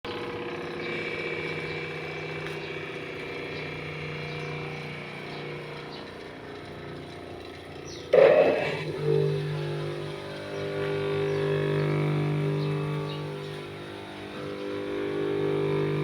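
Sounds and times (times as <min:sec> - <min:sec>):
bench grinder hum and whine: 0:00.1 - 0:16.0.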